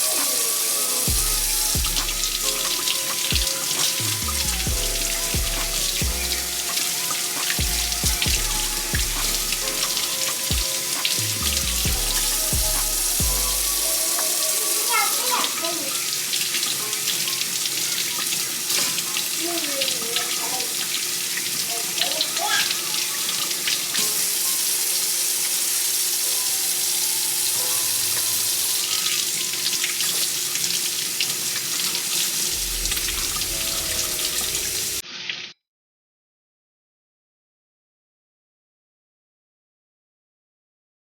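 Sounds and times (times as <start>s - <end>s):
water running from a tap: 0.0s - 35.5s.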